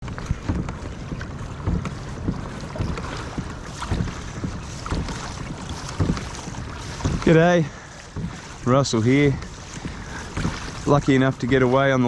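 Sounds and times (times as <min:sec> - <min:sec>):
water lapping against kayak hull: 0:00.0 - 0:12.0
wind rumble on microphone: 0:00.0 - 0:12.0.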